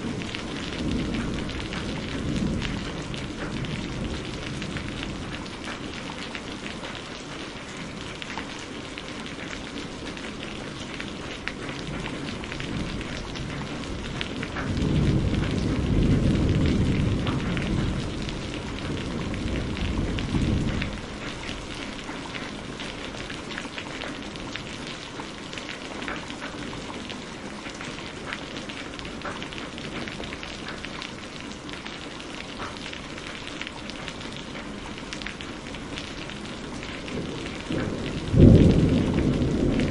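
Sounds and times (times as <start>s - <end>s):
low rumble of thunder: 0.0s - 8.2s, 9.2s - 32.0s, 32.6s - 39.9s
close raindrop ticks: 0.0s - 39.9s
heavy rain: 0.0s - 39.9s.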